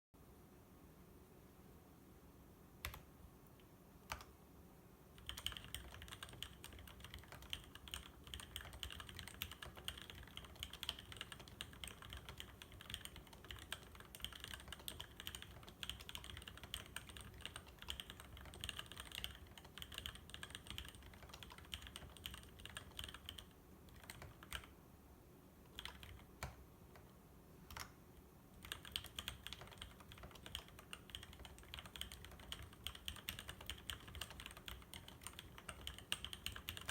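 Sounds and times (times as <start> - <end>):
mechanical keyboard typing: 2.8 - 3.1, 4.0 - 4.3, 5.2 - 24.7, 25.7 - 27.1, 27.7 - 27.9, 28.6 - 36.9.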